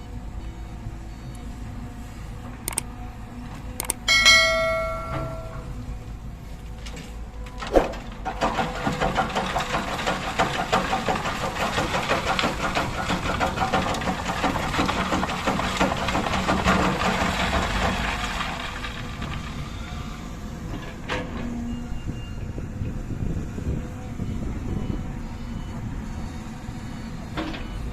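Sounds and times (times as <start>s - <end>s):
diesel engine working hard: 0.0s - 27.9s.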